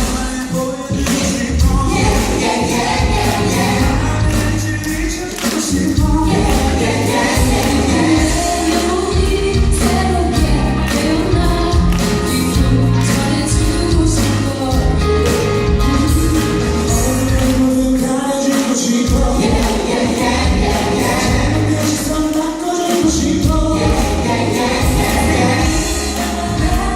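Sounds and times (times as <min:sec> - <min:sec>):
live band playing: 0:00.0 - 0:26.9
voices singing together: 0:00.0 - 0:26.9
steady bass line: 0:00.9 - 0:05.2, 0:05.8 - 0:18.0, 0:19.1 - 0:22.2, 0:23.1 - 0:26.9.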